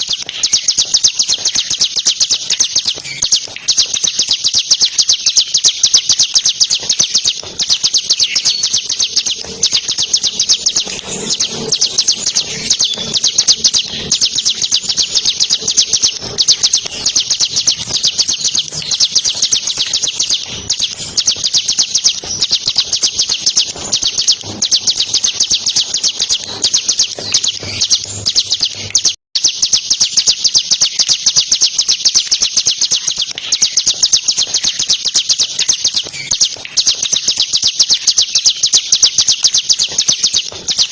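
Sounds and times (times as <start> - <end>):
bird singing fast trill: 0.0 - 40.9.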